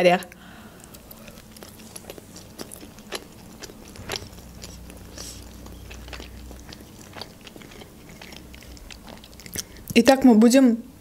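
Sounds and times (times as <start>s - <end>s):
person chewing with wet clicks: 0.2s - 10.0s.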